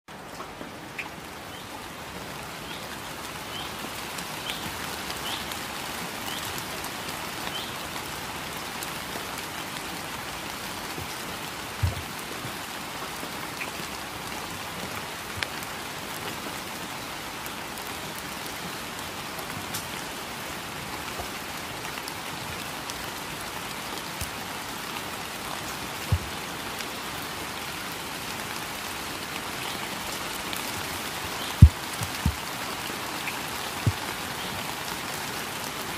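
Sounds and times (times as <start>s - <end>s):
rain falling on wet surface: 0.1s - 35.9s.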